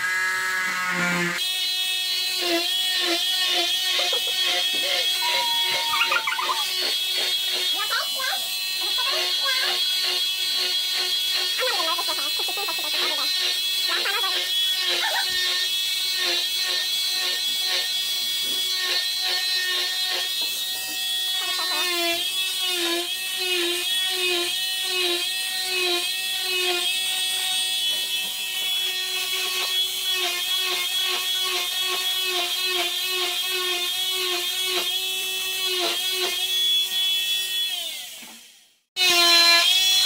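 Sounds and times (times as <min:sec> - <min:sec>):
cast saw motor whine: 0:00.0 - 0:40.0.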